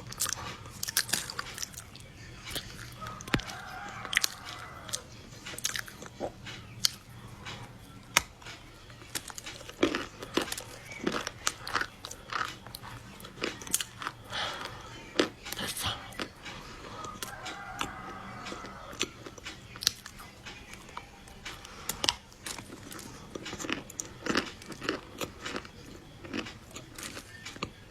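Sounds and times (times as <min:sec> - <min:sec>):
crunching and chewing chocolate: 0:00.0 - 0:27.9.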